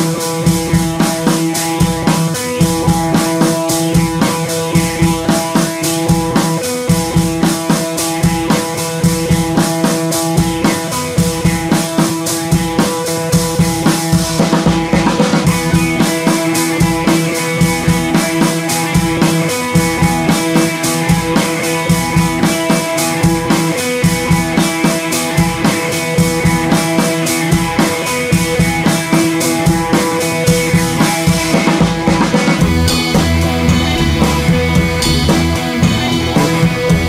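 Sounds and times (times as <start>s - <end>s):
background music with drums: 0.0s - 37.0s.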